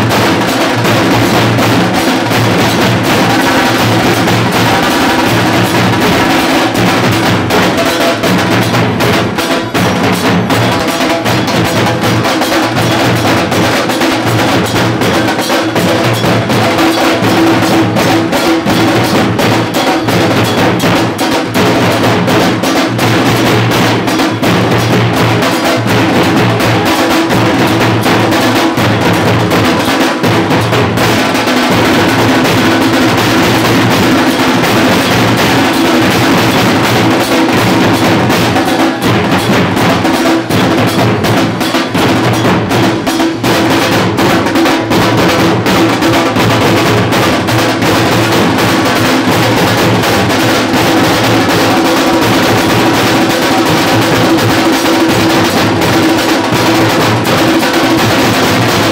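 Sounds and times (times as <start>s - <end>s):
dhol drums beaten with sticks: 0.0s - 58.9s.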